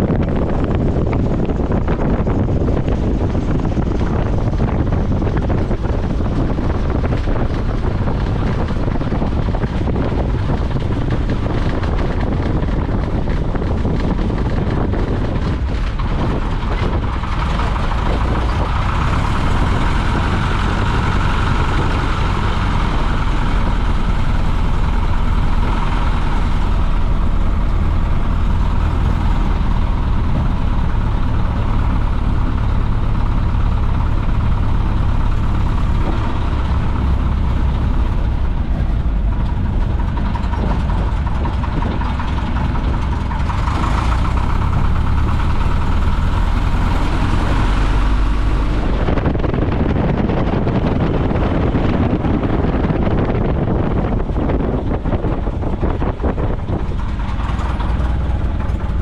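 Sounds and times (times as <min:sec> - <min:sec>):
wind and airflow noise: 0:00.0 - 0:59.0.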